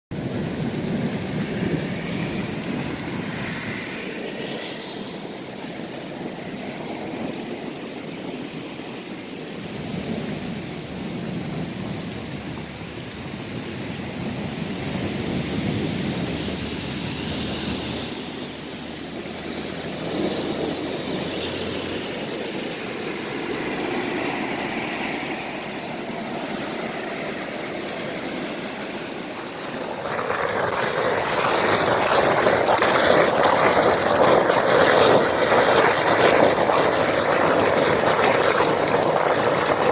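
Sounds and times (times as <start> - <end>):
hail and heavy rain pelting: 0.1 - 39.9.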